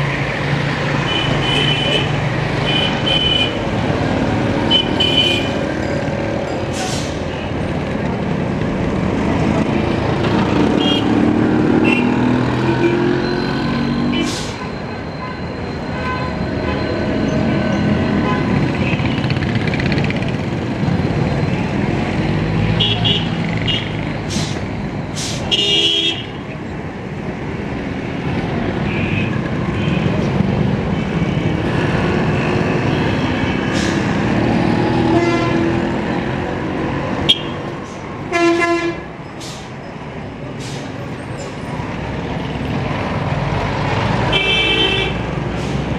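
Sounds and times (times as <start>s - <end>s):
passing vehicle engines: 0.0s - 25.5s, 26.3s - 45.9s.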